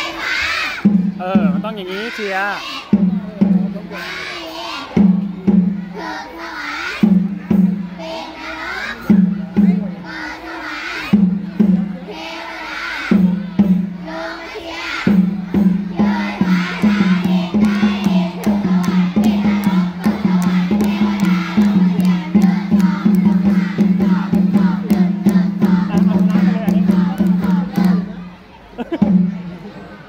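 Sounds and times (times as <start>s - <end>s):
voices singing along: 0.0s - 29.3s.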